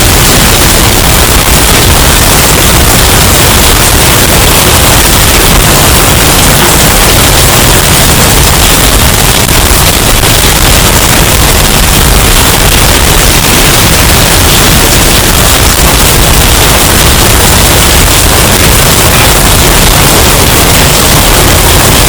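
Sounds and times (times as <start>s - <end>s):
distorted hurricane wind: 0.0s - 22.0s.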